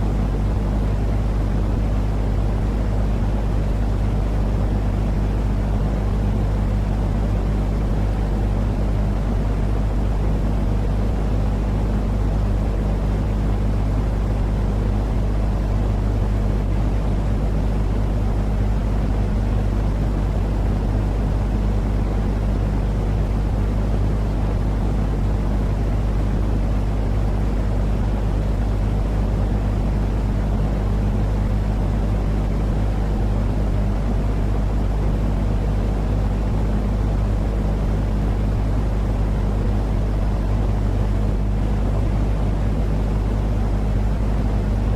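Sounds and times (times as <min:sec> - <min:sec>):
steady low hum: 0:00.0 - 0:44.9
steady low rumbling noise: 0:00.0 - 0:44.9.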